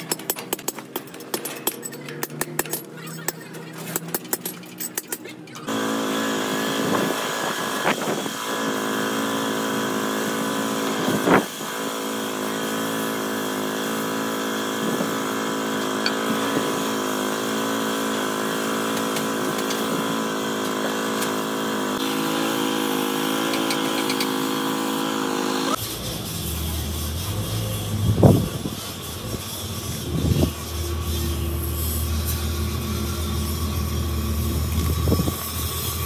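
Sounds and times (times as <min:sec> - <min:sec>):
air compressor running: 0:05.6 - 0:36.0.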